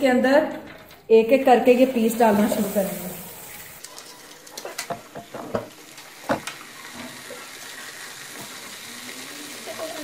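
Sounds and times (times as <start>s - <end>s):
wings sizzling in hot oil: 1.9s - 10.0s.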